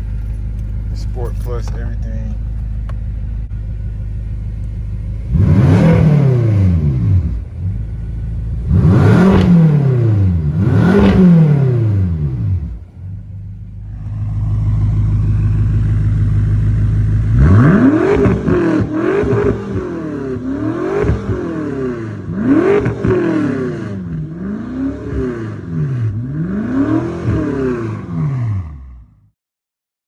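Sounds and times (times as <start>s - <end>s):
car engine idling and revving: 0.0s - 29.3s.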